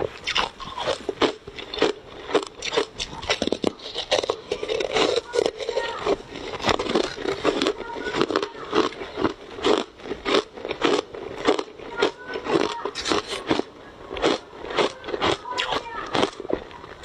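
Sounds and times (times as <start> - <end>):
ice crunching being chewed: 0.0 - 17.0.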